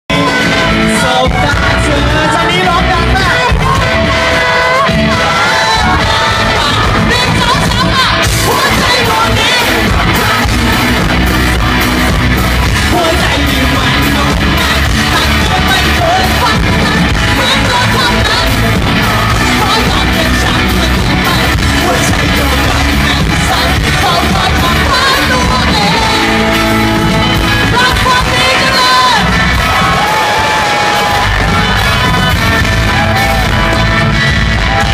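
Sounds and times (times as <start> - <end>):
drums: 0.1 - 34.9
live rock band playing: 0.1 - 34.9
man singing lead vocals: 0.1 - 34.9.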